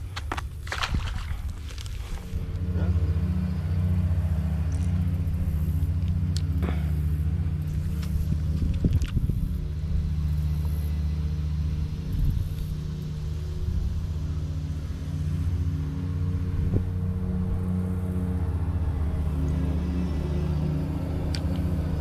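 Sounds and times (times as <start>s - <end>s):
large motor droning: 1.7s - 22.0s.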